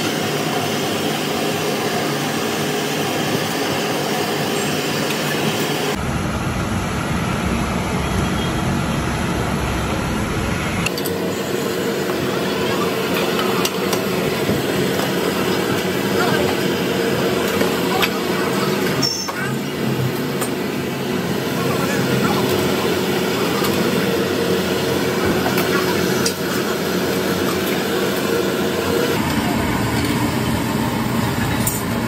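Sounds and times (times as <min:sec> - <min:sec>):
gas burner roaring: 0:00.0 - 0:32.0.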